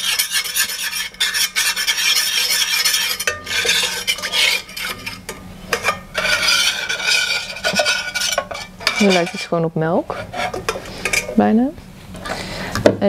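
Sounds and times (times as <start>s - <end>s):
metal spoon scraping saucepan: 0.0s - 11.5s.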